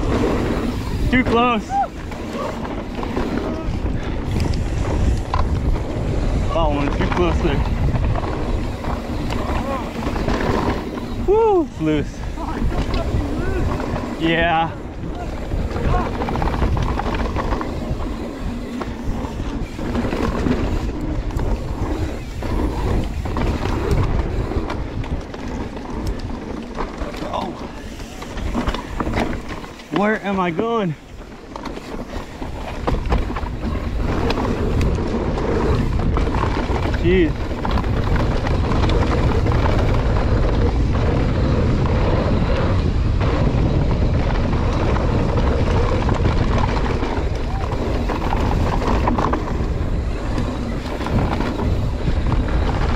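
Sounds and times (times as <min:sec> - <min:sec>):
bike chain and frame rattling: 0:00.0 - 0:52.9
tyres rumbling on dirt: 0:00.0 - 0:52.9
wind buffeting microphone: 0:00.0 - 0:52.9.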